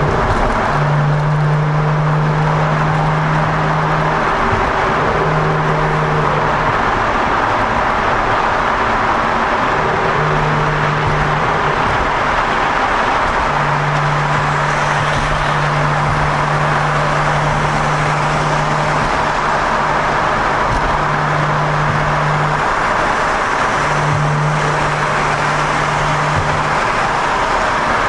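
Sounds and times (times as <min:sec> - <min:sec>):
low exhaust drone: 0:00.0 - 0:28.0
road and engine noise: 0:00.0 - 0:28.0.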